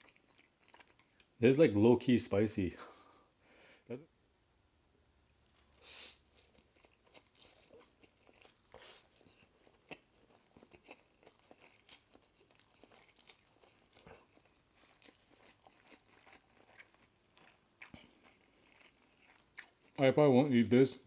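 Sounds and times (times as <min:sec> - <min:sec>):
faint chewing and mouth smacking: 0:00.0 - 0:01.4, 0:05.3 - 0:21.0.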